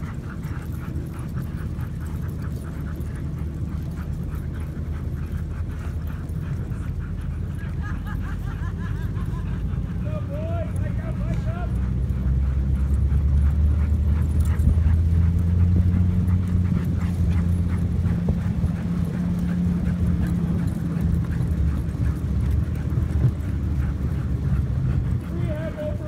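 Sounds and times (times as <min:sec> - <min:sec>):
paws and sled runners on snow: 0:00.0 - 0:26.0
steady low rumble: 0:00.0 - 0:26.0.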